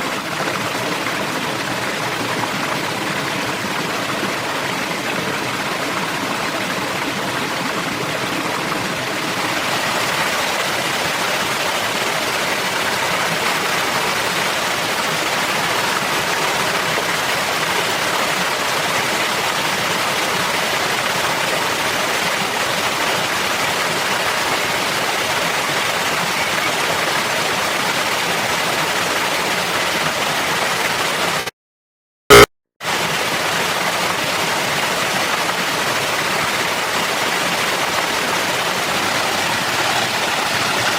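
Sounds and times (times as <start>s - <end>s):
flowing stream water: 0.0s - 31.5s, 32.3s - 40.9s.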